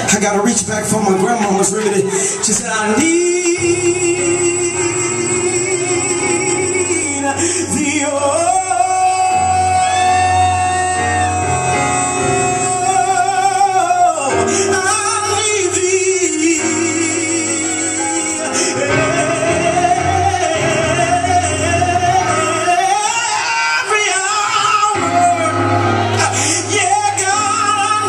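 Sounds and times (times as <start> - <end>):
person singing gospel: 0.0 - 28.0.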